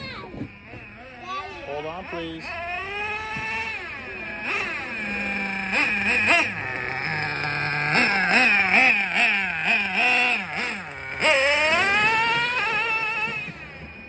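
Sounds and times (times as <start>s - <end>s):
rc nitro engine revving: 0.6s - 14.0s.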